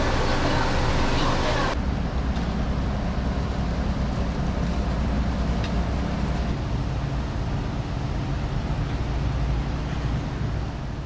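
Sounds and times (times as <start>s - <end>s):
street background rumble: 0.0s - 11.0s.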